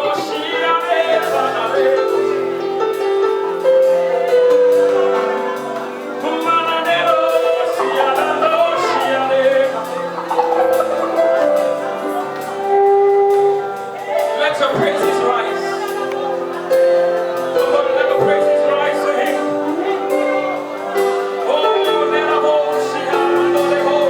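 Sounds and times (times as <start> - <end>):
band playing gospel music: 0.0 - 24.0
person singing: 0.0 - 24.0.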